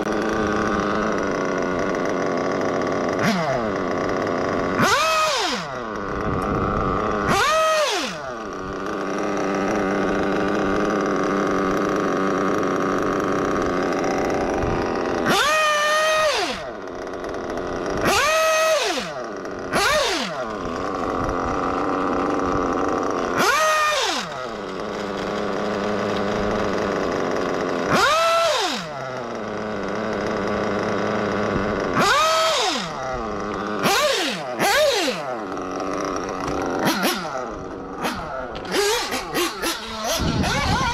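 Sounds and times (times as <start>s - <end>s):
model nitro engine revving: 0.0s - 40.9s.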